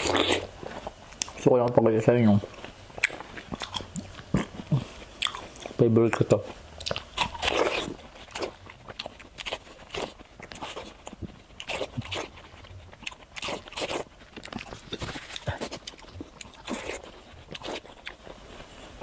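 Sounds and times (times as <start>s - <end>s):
chewing watermelon: 0.0s - 19.0s.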